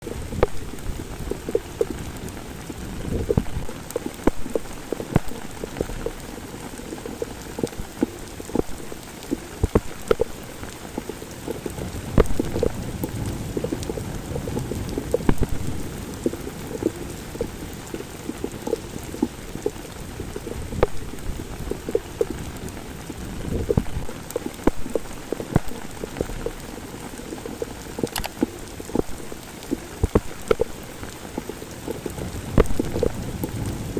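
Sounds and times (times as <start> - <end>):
heavy rain on a street: 0.0 - 33.9
raindrops splashing: 0.0 - 33.9.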